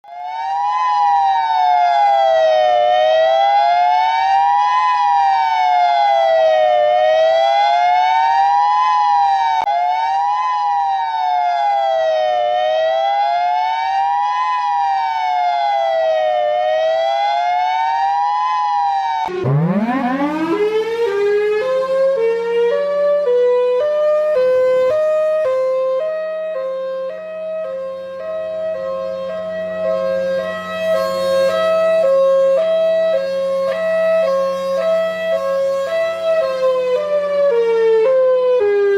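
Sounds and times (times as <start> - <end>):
siren wailing up and down: 0.0 - 38.9
two-tone siren: 0.0 - 38.9.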